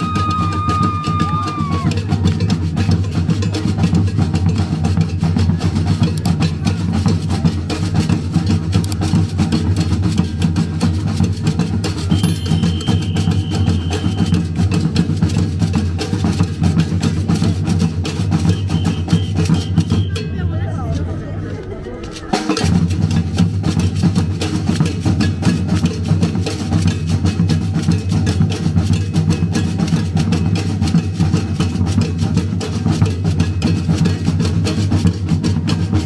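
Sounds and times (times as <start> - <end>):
rattling snare drums: 0.0 - 20.4, 21.8 - 36.0.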